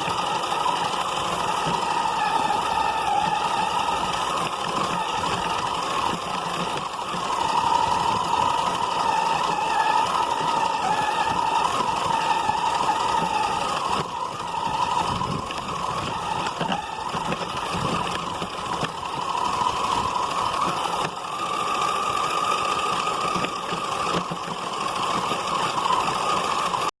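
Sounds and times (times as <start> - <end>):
radio-controlled car motor whine: 0.0 - 26.9.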